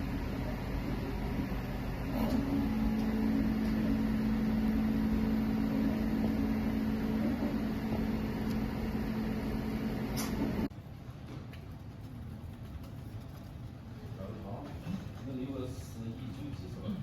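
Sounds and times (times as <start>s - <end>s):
printer motors and fans humming: 0.0s - 17.0s.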